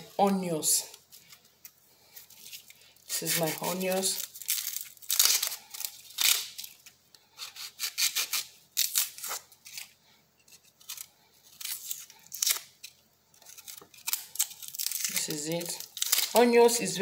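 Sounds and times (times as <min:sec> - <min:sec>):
onion skin crackling and tearing: 0:00.0 - 0:17.0.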